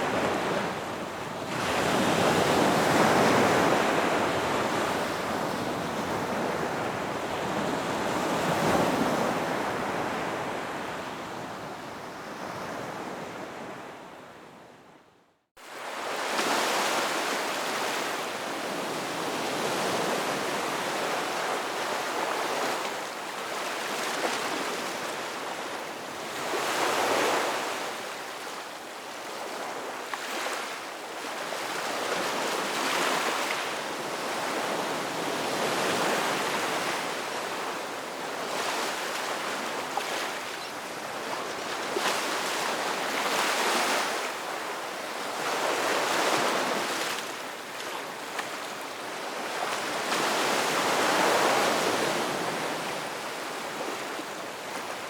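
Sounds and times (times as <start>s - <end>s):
ocean waves breaking on shore: 0.0s - 14.0s, 15.6s - 55.0s.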